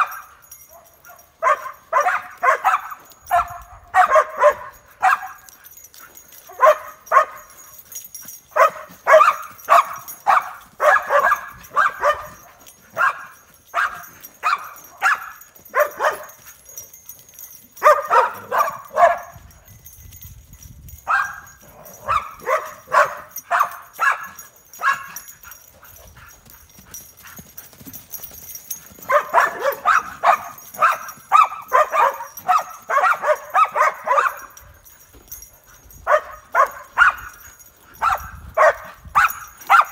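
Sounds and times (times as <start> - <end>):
dog barking and yipping: 0.0 - 19.5, 21.0 - 39.9.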